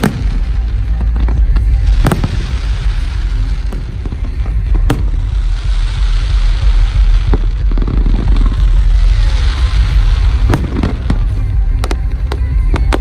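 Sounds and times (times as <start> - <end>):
fireworks bangs: 0.0 - 13.0
fireworks pops: 0.0 - 13.0
low rumble: 0.0 - 13.0.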